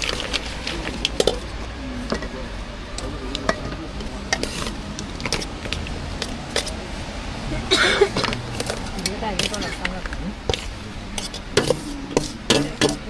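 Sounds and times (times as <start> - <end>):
utensils and containers clattering: 0.0 - 2.4, 3.3 - 6.9, 7.7 - 13.0.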